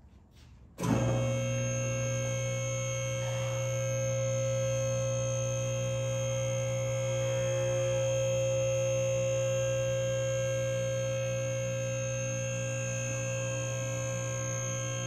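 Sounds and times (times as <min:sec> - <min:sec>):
steady hum of held tones: 0:01.1 - 0:15.0.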